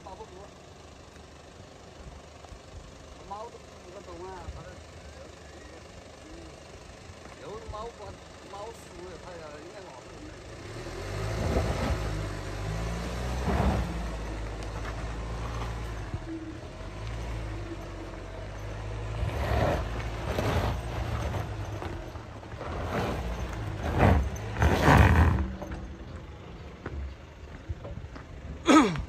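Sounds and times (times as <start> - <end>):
off-road vehicle engine revving: 3.2 - 29.0.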